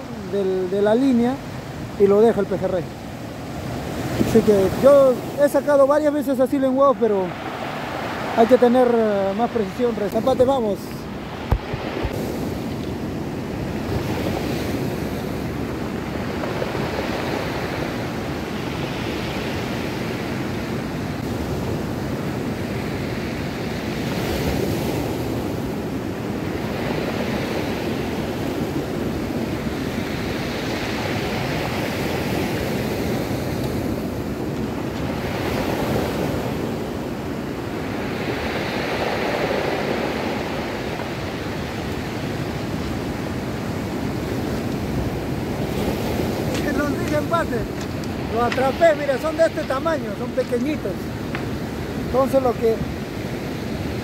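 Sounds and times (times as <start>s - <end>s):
surf washing on stony shore: 0.0s - 54.0s
wind on microphone: 0.0s - 54.0s.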